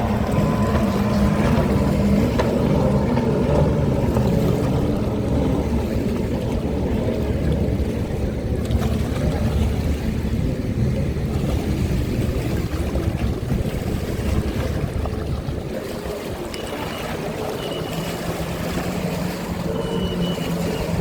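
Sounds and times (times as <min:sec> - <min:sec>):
jet ski engines droning: 0:00.0 - 0:21.0.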